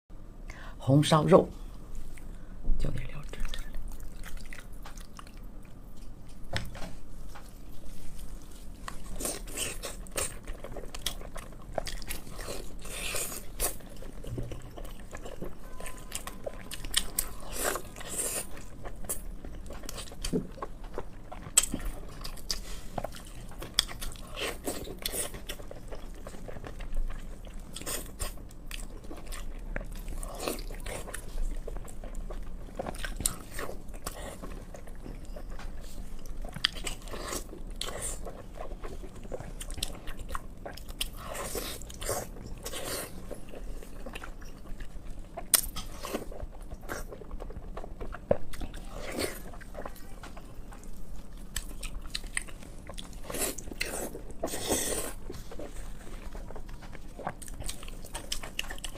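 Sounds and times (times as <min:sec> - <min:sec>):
person chewing and crunching: 0:03.1 - 0:06.5, 0:07.2 - 0:58.9.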